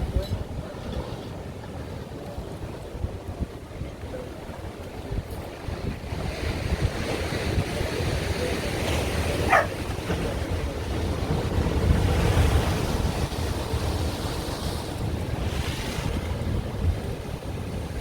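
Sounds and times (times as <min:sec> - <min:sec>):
wind buffeting microphone: 0:00.0 - 0:18.0
ocean surf breaking: 0:00.9 - 0:18.0.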